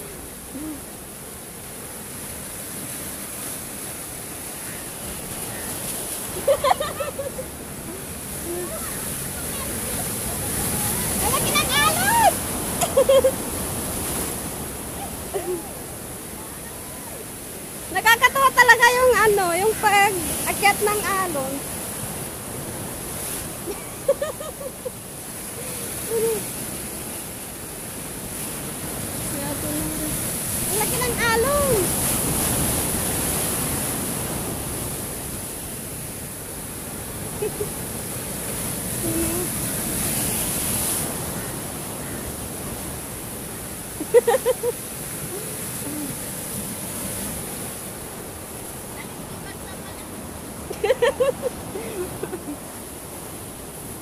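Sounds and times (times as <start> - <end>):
surf breaking over rocks: 0.0 - 54.0.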